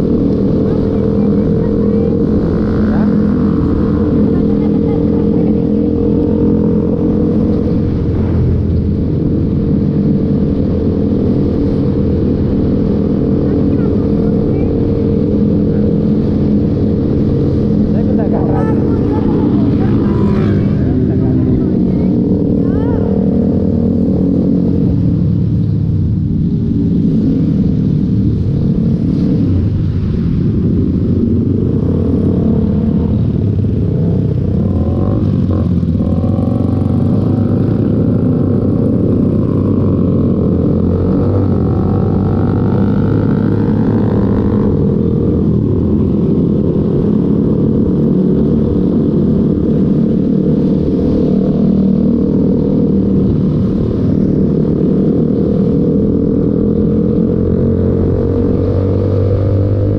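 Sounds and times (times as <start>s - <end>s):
motorcycle engine running: 0.0s - 59.9s
traffic engines rising and falling: 0.0s - 59.9s
wind rush on microphone: 0.0s - 59.9s.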